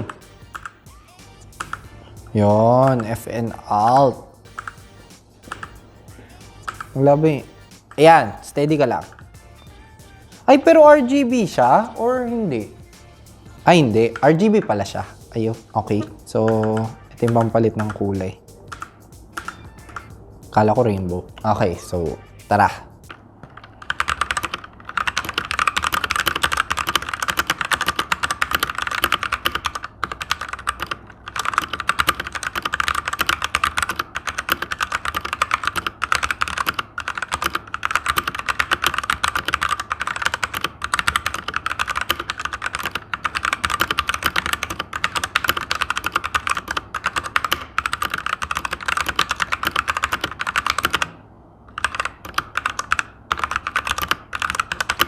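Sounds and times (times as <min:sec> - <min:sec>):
mechanical keyboard typing: 0:00.0 - 0:01.0, 0:01.6 - 0:01.9, 0:02.5 - 0:09.4, 0:13.7 - 0:22.7, 0:23.5 - 0:55.0.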